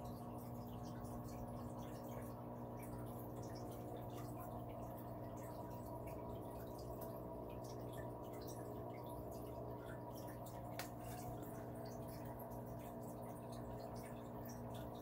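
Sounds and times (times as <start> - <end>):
aquarium pump humming: 0.0 - 15.0
water dripping and trickling: 0.0 - 15.0.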